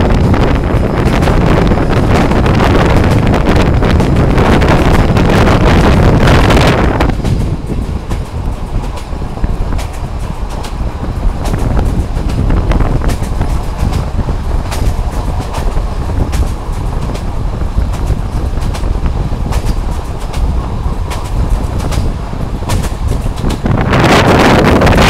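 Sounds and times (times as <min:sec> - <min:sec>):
train wheels rumbling on rail: 0:00.0 - 0:25.0
wheels clicking over rail joints: 0:00.0 - 0:25.0.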